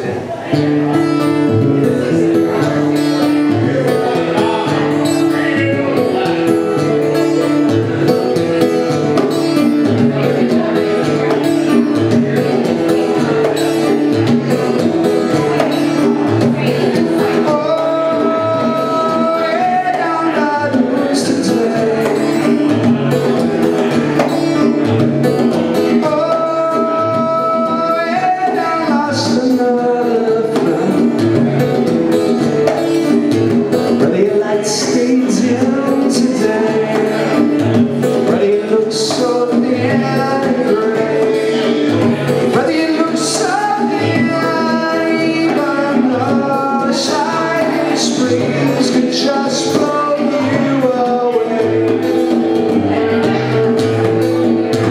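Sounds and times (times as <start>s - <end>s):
acoustic guitar: 0.0s - 54.9s
man singing: 0.0s - 54.9s
bongos: 0.2s - 54.9s.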